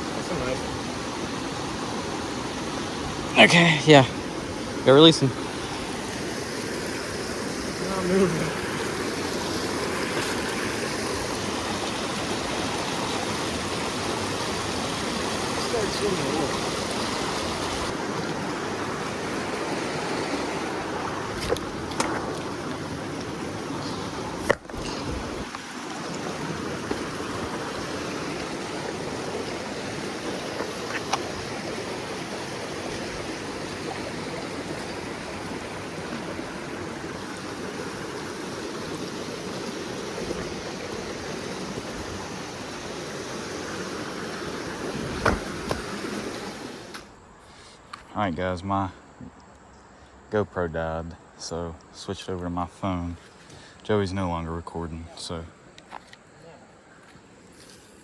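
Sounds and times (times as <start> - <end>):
river water rushing: 0.0 - 47.2.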